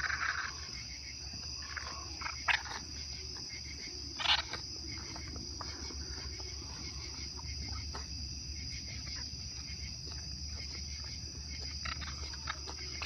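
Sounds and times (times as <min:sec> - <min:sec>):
animals huffing and sniffing: 0:00.0 - 0:13.0
night insects trilling: 0:00.0 - 0:13.0.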